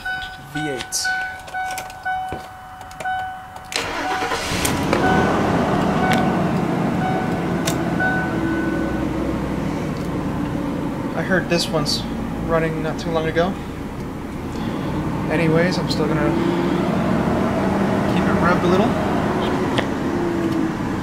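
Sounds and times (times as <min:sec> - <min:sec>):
car engine starting and idling: 0:00.0 - 0:21.0
dashboard warning chime: 0:00.0 - 0:21.0.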